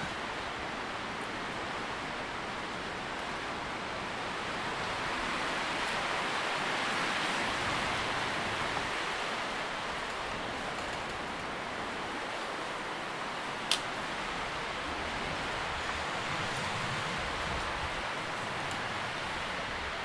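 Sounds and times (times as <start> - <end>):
wind rustling tree leaves: 0.0 - 20.0.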